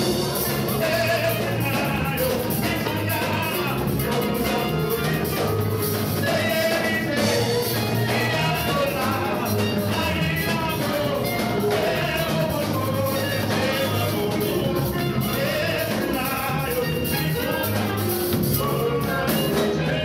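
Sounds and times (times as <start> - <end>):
upbeat music with singing: 0.0 - 20.0.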